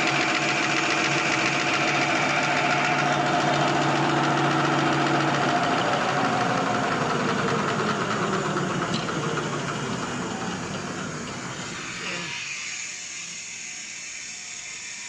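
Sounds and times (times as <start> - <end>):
folding machine humming: 0.0 - 12.7.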